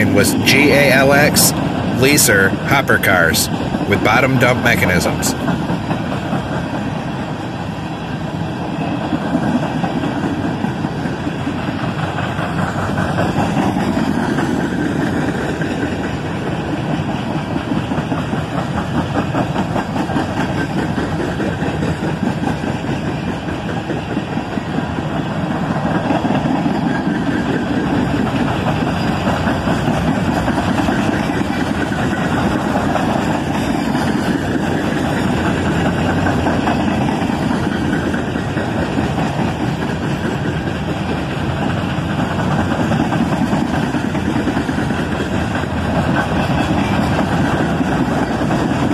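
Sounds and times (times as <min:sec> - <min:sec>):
train wheels clanking on rails: 0:00.0 - 0:48.9.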